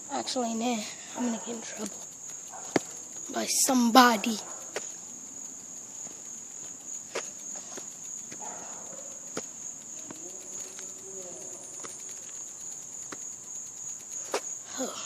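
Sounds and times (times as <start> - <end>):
crickets chirping: 0.0 - 15.0
sharp clicks: 0.9 - 14.8.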